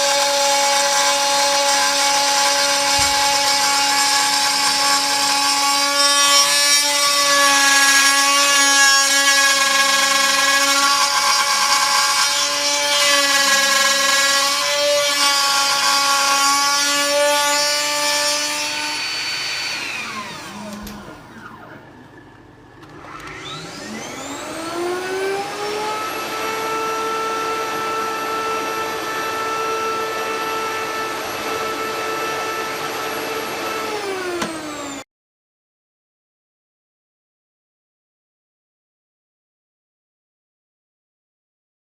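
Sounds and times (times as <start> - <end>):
router spindle whining: 0.0 - 35.0
wood cutting noise: 0.0 - 35.1.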